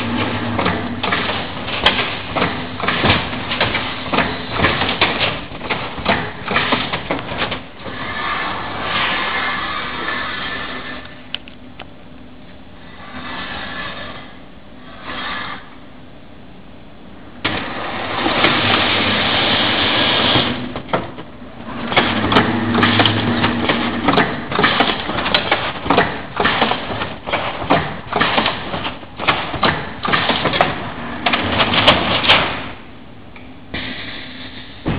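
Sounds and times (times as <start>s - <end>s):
low machine hum: 0.0s - 34.9s.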